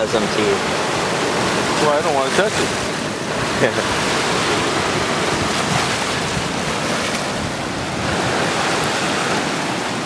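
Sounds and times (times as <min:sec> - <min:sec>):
surf on rocky shore: 0:00.0 - 0:10.0
wind on microphone: 0:00.0 - 0:10.0.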